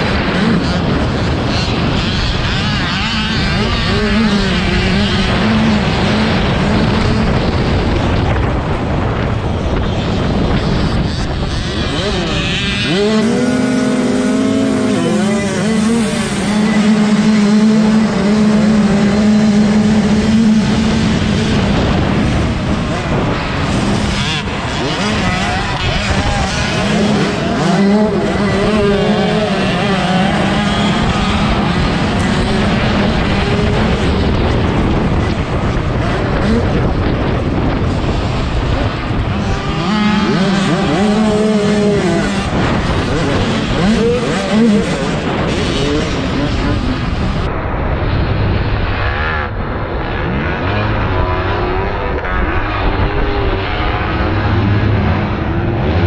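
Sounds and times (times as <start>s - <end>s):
dirt bike engine revving: 0.0s - 56.0s
wind noise on microphone: 0.0s - 56.0s.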